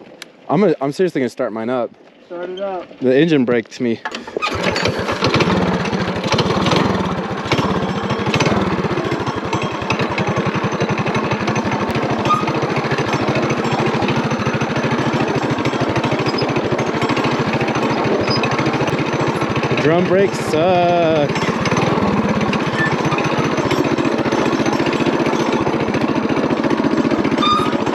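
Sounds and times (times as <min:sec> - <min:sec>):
small engine running: 0:04.2 - 0:27.9.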